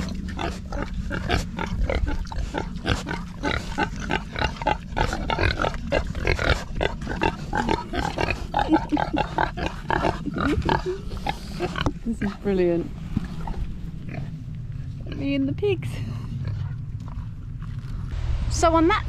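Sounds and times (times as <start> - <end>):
pigs grunting: 0.0 - 15.4.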